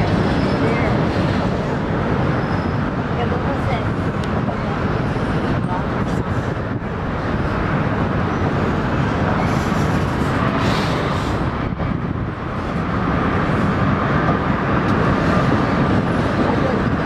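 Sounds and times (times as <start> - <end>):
freight train rumbling over bridge: 0.0 - 17.0.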